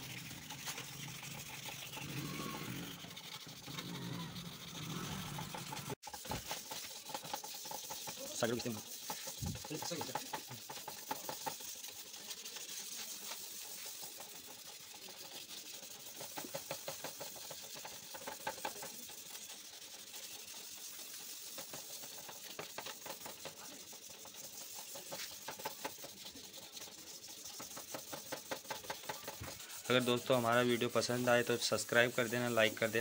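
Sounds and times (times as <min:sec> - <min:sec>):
sandpaper scratching plastic: 0:00.0 - 0:33.0.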